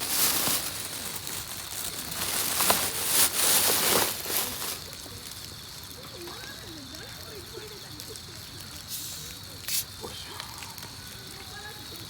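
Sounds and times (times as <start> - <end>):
carbonated water fizzing: 0.0 - 12.0.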